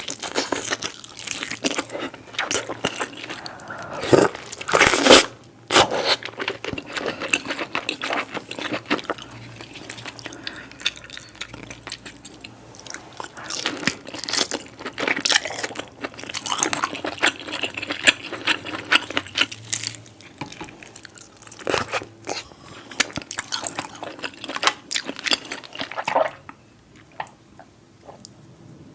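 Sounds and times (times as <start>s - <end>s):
chewing and crunching crab: 0.0s - 27.4s.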